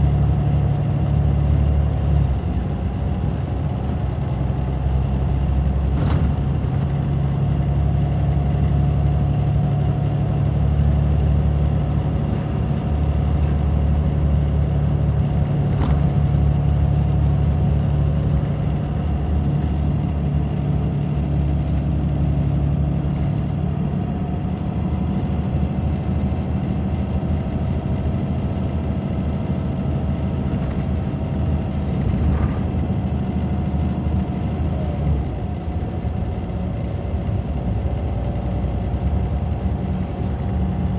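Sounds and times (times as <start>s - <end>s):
bus diesel engine humming: 0.0s - 40.9s.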